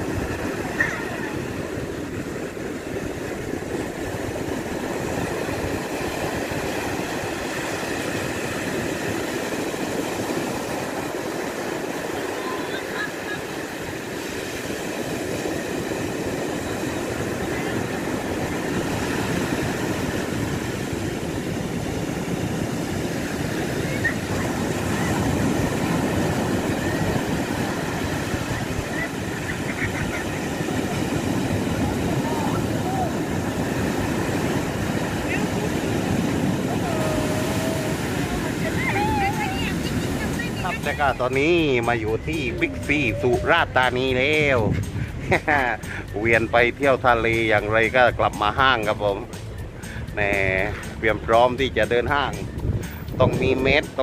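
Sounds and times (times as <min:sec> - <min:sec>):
surf breaking on beach: 0:00.0 - 0:54.0.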